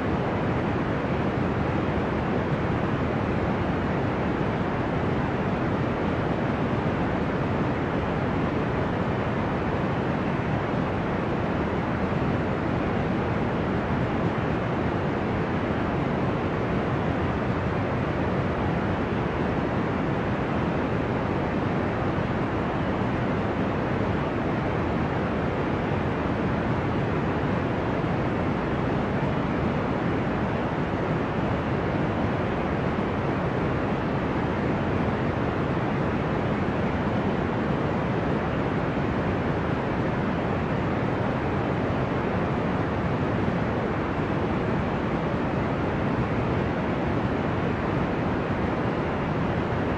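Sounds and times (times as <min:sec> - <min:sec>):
deep white noise hiss: 0:00.0 - 0:49.9.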